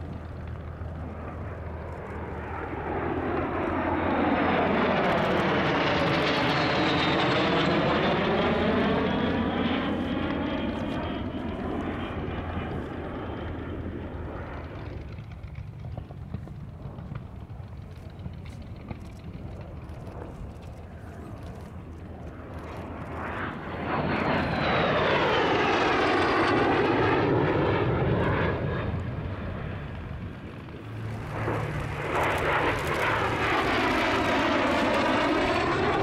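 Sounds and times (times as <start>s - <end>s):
jet flying past: 0.0s - 36.0s.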